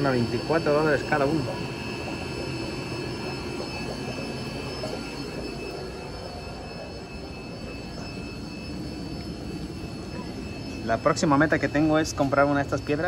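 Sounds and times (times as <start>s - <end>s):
faint high whines: 0.0s - 13.0s
mechanical hum: 0.0s - 13.0s.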